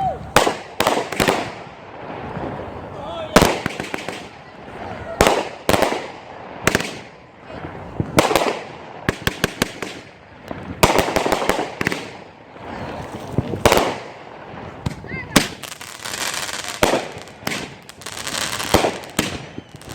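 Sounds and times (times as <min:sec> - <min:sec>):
fireworks crackling: 0:00.0 - 0:19.9
fireworks banging: 0:00.2 - 0:19.9.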